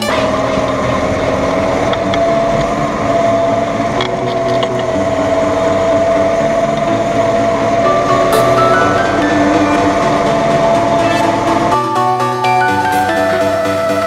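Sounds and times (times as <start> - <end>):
steady whine: 0.0 - 14.0
tractor diesel engine running: 0.0 - 14.0.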